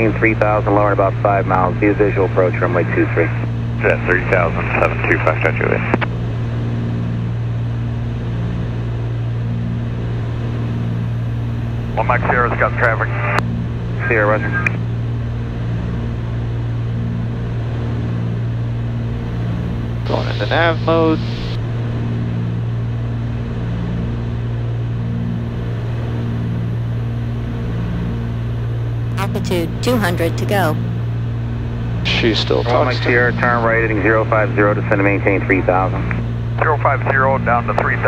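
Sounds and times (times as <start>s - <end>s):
aircraft engines droning: 0.0s - 38.0s.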